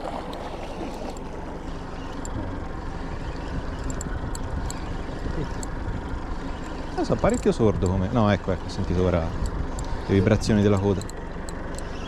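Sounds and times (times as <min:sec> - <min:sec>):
boat motor running: 0:00.0 - 0:12.0
water around a hull: 0:00.0 - 0:12.0.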